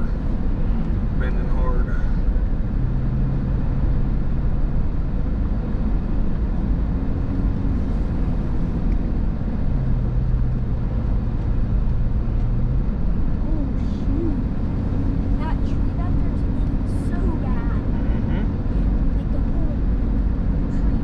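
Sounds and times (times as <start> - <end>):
tyres and engine rumble: 0.0 - 21.0.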